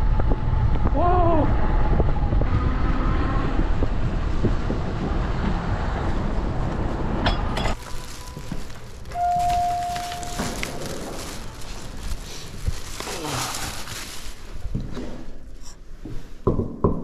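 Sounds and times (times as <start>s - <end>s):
wind and road noise rumble: 0.0s - 16.8s.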